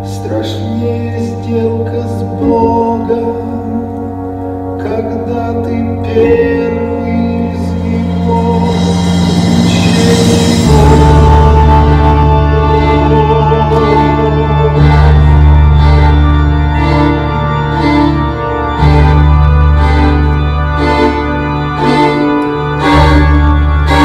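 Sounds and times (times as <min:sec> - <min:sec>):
slow organ-like instrumental music: 0:00.0 - 0:24.0.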